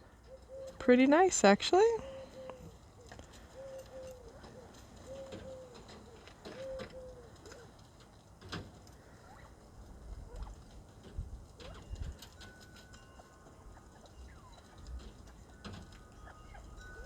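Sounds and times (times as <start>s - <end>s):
birds cooing: 0.0s - 1.0s, 1.8s - 10.8s, 11.6s - 17.0s.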